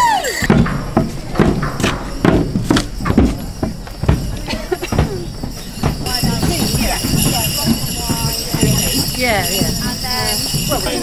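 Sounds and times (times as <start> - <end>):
footsteps on footbridge: 0.4 - 11.0.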